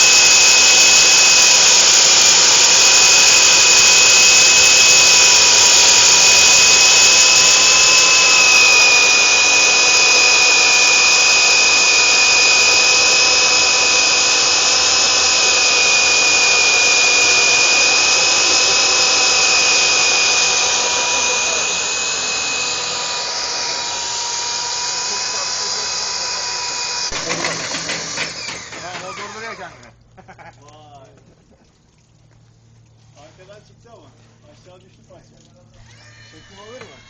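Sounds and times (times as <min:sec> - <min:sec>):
core drill motor whine: 0:00.0 - 0:29.9, 0:35.8 - 0:37.0.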